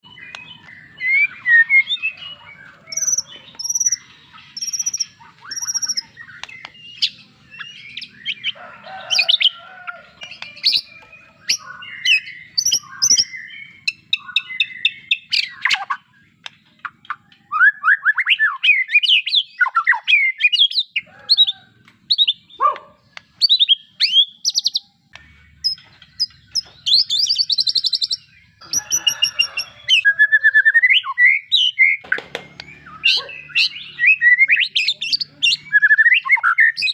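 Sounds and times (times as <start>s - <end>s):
songbird whistling and trilling: 0.0s - 36.9s.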